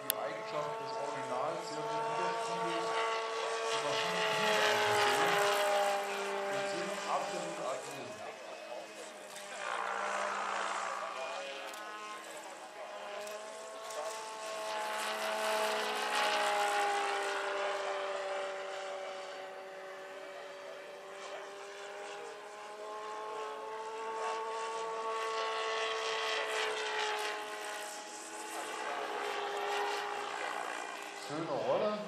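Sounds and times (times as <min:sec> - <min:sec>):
electric motor whine: 0:00.0 - 0:31.9
helicopter rotor blades: 0:00.0 - 0:32.0.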